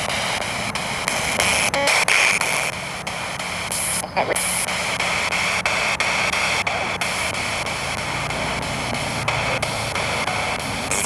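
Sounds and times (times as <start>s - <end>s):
radio static chopped by sweeping: 0.0s - 11.0s.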